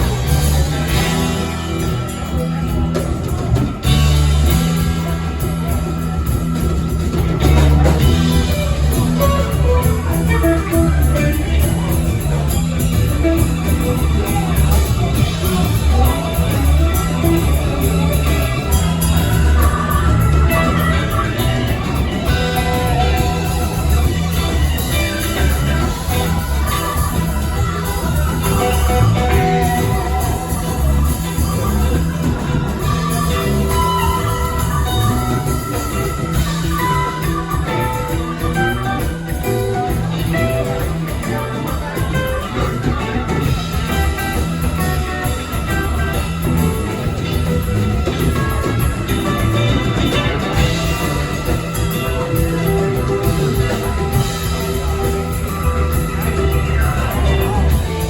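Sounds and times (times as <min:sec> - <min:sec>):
bass guitar: 0:00.0 - 0:58.0
drums: 0:00.0 - 0:58.0
electric guitar: 0:00.0 - 0:58.0.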